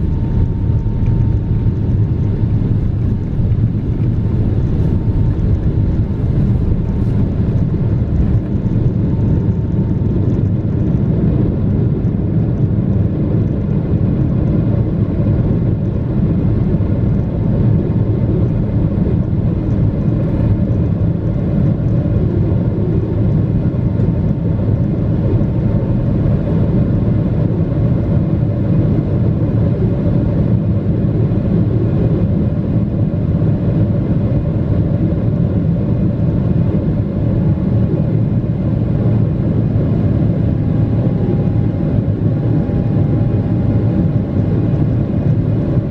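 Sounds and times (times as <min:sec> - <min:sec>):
deep rumble of jet engines: 0:00.0 - 0:45.9.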